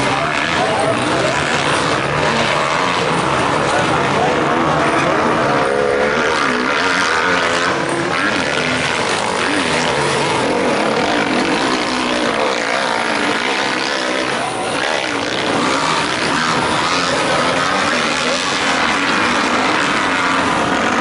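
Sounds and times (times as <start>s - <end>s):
motocross bike engines racing: 0.0s - 21.0s.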